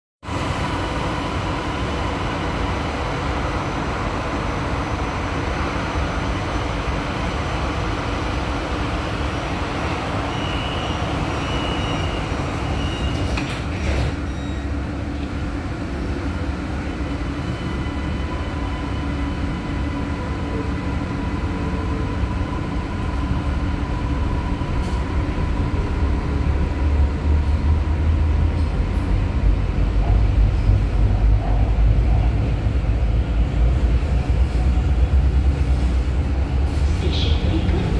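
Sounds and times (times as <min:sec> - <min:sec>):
train interior hum: 0:00.2 - 0:37.9
train rumble moving off: 0:00.2 - 0:37.9.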